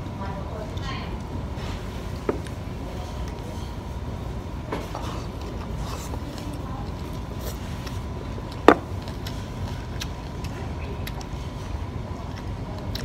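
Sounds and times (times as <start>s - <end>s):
restaurant room rumble: 0.0s - 13.0s.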